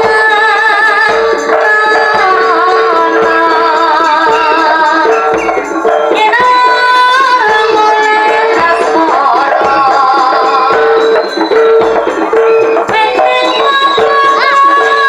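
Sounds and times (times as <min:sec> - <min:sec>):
steady drum beat: 0:00.0 - 0:15.0
wavering ornamented melody: 0:00.0 - 0:15.0.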